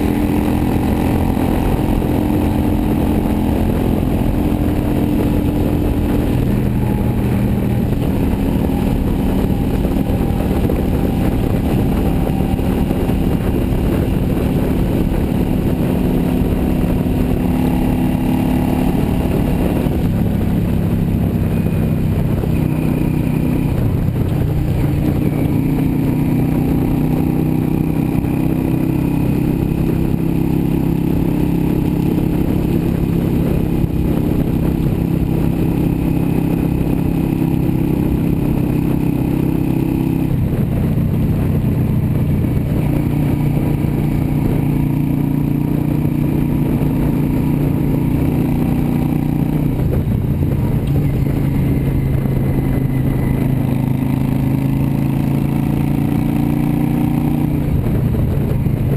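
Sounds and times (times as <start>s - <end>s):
motorcycle engine cruising: 0.0s - 58.9s
wind rushing over microphone: 0.0s - 58.9s.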